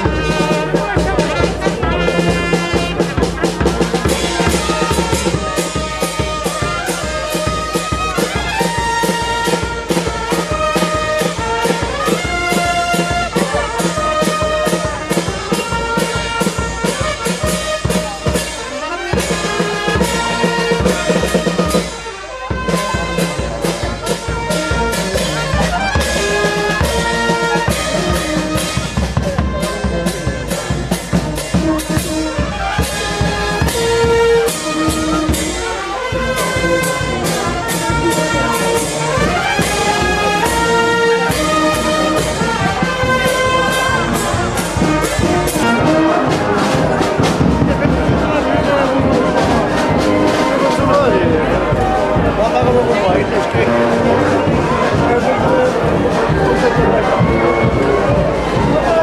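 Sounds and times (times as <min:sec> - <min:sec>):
brass band playing a march: 0:00.0 - 0:59.0
steady drum beat: 0:00.0 - 0:59.0.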